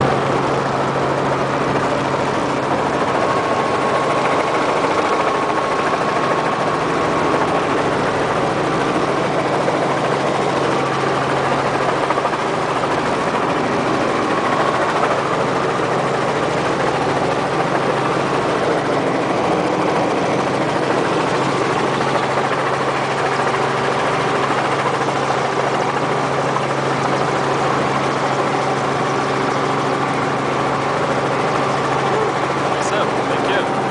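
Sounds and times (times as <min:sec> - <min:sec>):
helicopter engine drone: 0:00.0 - 0:33.9.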